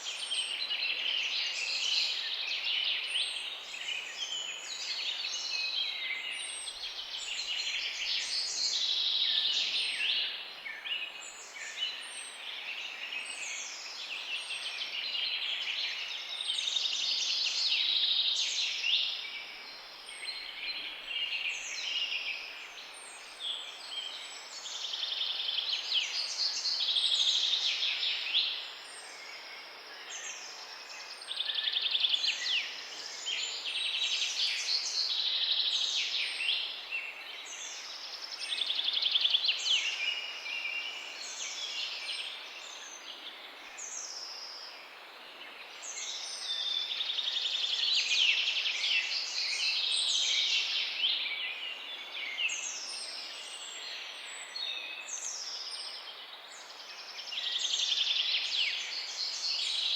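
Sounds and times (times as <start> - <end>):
faint background hiss: 0.0 - 59.9
songbirds chirping and trilling: 0.0 - 59.9.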